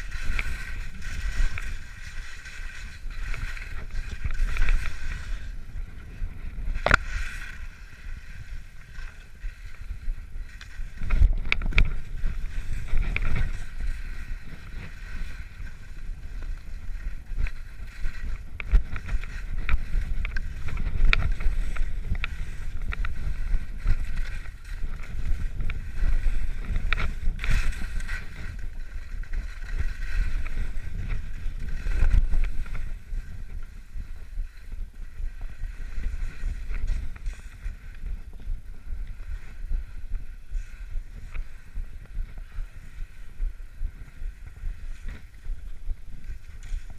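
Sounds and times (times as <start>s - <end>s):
skis hissing through snow: 0.0s - 11.2s, 12.0s - 46.9s
skis and poles clicking: 0.0s - 46.9s
wind buffeting microphone: 0.0s - 46.9s.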